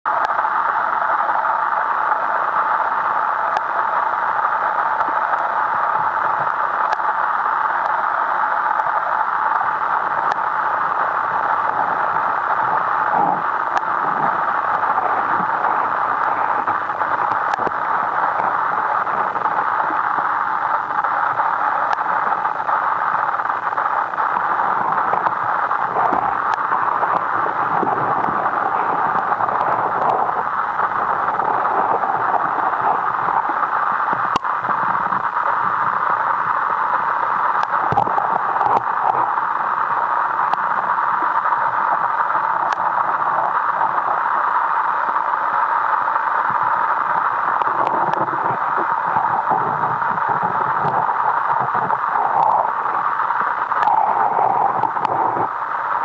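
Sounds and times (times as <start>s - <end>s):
faint ticks: 0.1s - 8.0s, 8.6s - 56.0s
steady hiss: 0.1s - 56.0s.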